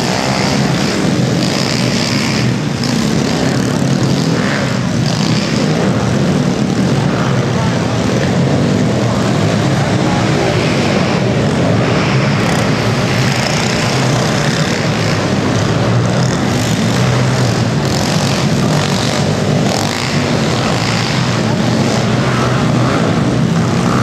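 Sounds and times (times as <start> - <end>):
small motorbike engines buzzing: 0.0 - 24.0.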